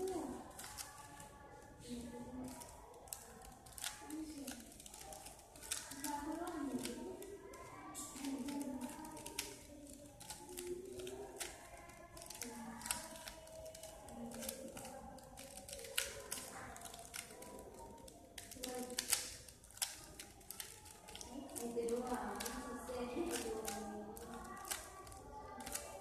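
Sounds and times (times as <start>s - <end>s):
voices talking in background: 0.0s - 26.0s
plastic puzzle cube clicks: 2.4s - 26.0s.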